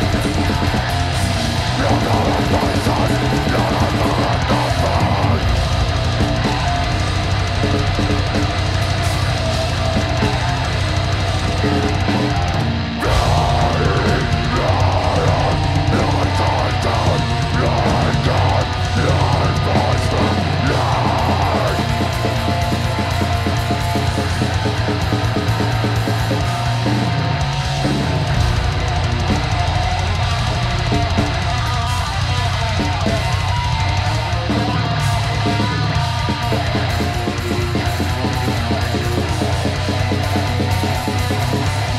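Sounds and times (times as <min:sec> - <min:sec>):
distorted electric guitars: 0:00.0 - 0:41.9
drum kit: 0:00.0 - 0:41.9.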